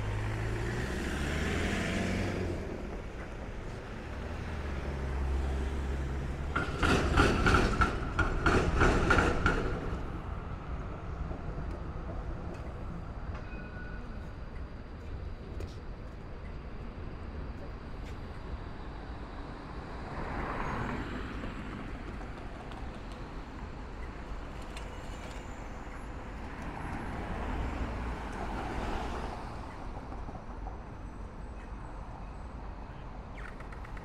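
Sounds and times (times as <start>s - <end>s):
city traffic hum: 0.0s - 34.0s
vehicles passing: 0.0s - 34.0s.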